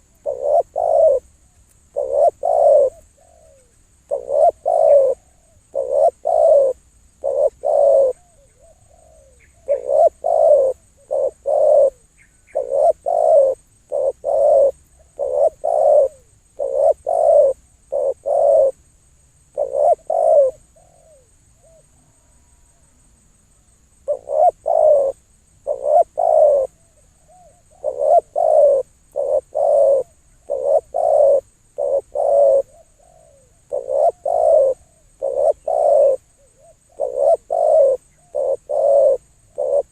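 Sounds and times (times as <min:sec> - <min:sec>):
dove cooing: 0:00.0 - 0:01.3, 0:01.9 - 0:18.8, 0:19.5 - 0:23.0, 0:24.0 - 0:39.9.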